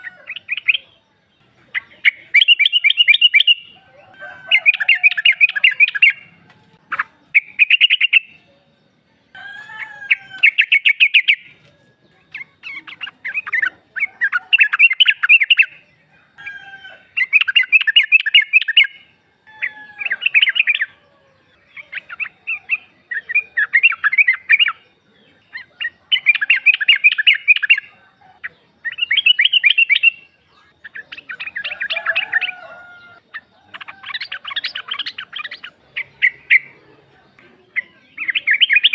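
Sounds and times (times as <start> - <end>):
bird chattering call: 0.0 - 8.4, 9.7 - 11.6, 12.3 - 15.8, 17.1 - 21.0, 21.6 - 36.8, 37.4 - 38.9.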